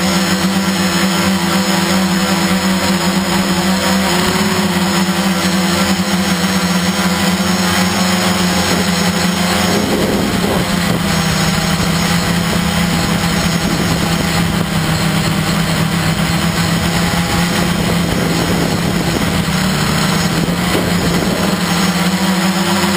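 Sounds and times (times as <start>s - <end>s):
drone motors humming: 0.0s - 22.9s.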